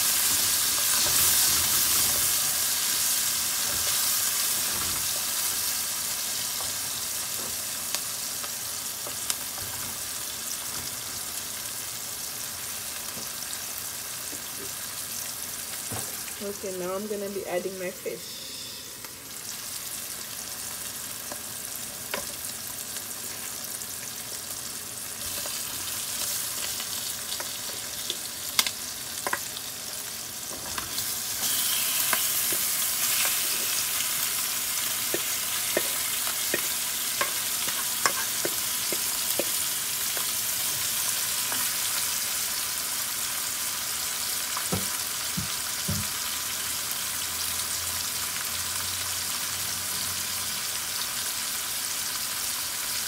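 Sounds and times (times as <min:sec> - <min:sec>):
food sizzling in oil: 0:00.0 - 0:53.0.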